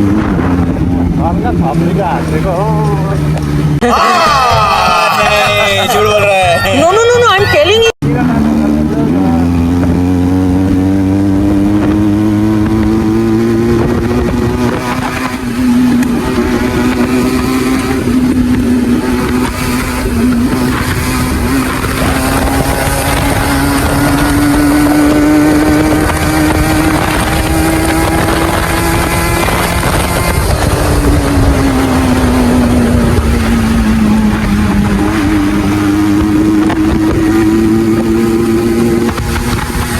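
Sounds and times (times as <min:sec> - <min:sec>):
wind rush: 0:00.0 - 0:02.3, 0:09.1 - 0:39.9
motorcycle engine cruising: 0:00.0 - 0:39.9.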